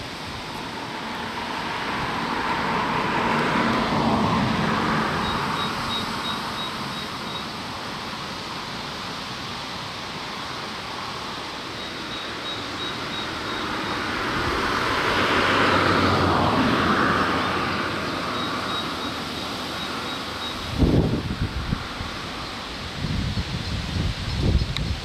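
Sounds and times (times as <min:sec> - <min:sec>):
vehicle passing: 0:00.0 - 0:08.2, 0:10.4 - 0:22.3
road traffic noise: 0:00.0 - 0:25.0.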